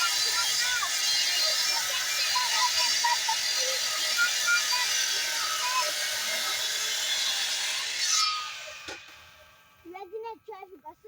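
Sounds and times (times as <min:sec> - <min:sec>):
woodworking power tool whining: 0:00.0 - 0:09.8.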